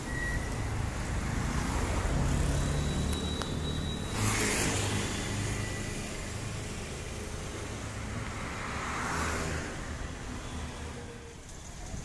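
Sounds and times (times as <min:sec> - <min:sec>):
cars and scooters passing: 0:00.0 - 0:12.0.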